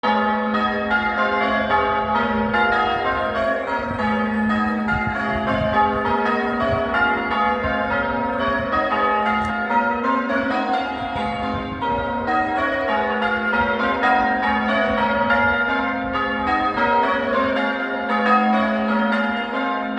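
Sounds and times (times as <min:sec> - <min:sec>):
church bells ringing changes: 0:00.0 - 0:19.9.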